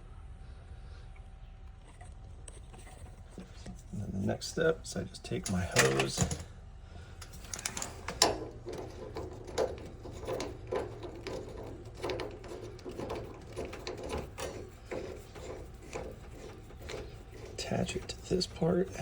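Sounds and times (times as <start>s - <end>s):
steady low hum: 0.0s - 19.0s
garden hose coupling clicks and scrapes: 2.5s - 6.5s, 7.2s - 19.0s.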